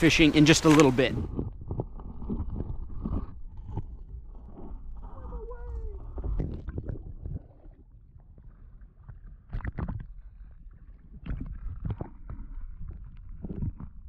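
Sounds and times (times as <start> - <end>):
muffled underwater river churning: 0.0 - 14.0
stones knocking underwater: 0.8 - 5.1, 6.0 - 14.0.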